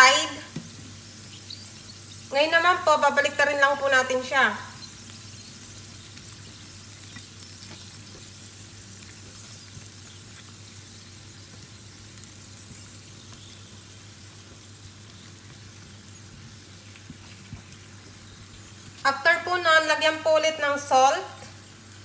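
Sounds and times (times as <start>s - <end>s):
potatoes sizzling in oil: 0.0s - 22.0s.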